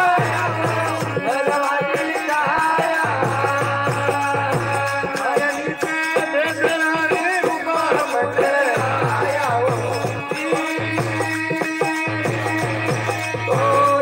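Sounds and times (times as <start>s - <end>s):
man singing into microphone: 0.0s - 14.0s
rattling hand percussion: 0.0s - 14.0s.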